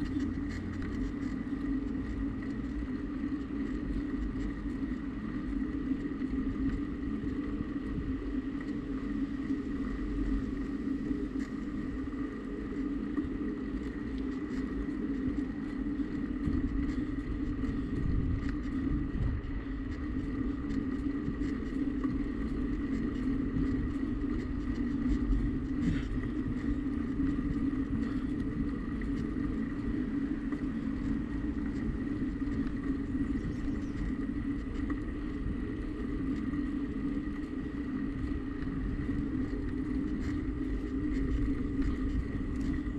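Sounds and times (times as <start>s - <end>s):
bicycle tyres rolling on pavement: 0.0s - 42.9s
faint high whine: 0.0s - 42.9s
wind rumble on microphone: 0.0s - 42.9s.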